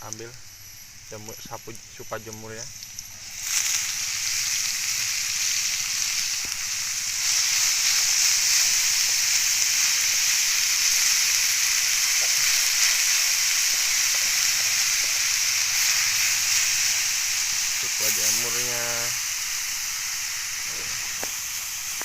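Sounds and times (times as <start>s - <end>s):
mushrooms sizzling in hot oil: 0.0s - 22.0s.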